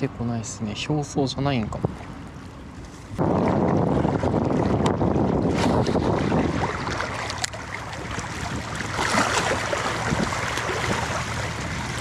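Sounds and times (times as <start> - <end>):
wind: 0.0 - 12.0
small waves lapping on shore: 1.5 - 12.0.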